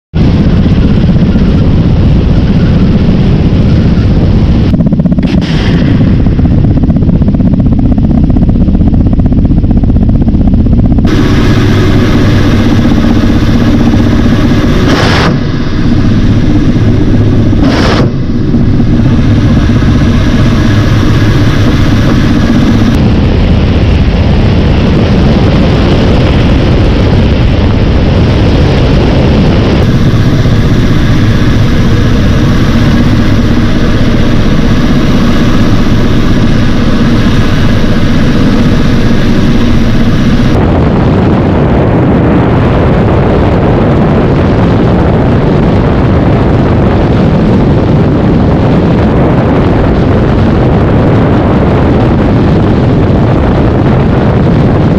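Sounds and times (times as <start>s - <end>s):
helicopter engines and rotors droning: 0.1s - 54.9s.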